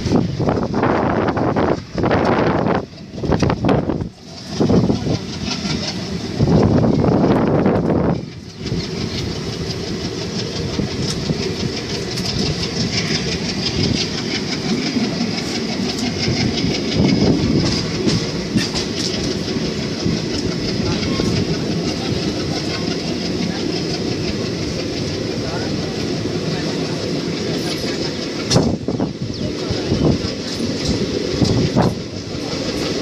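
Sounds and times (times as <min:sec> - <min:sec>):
rumble of train coaches: 0:00.0 - 0:33.0
train wheels clattering over rail joints: 0:00.0 - 0:33.0.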